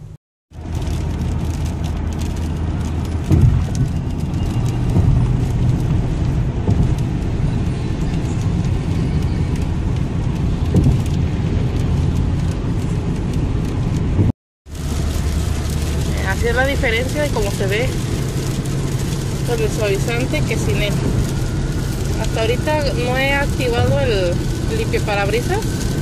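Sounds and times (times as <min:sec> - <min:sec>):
road and engine rumble inside car: 0:00.0 - 0:26.0
rain tapping on windshield: 0:00.5 - 0:26.0.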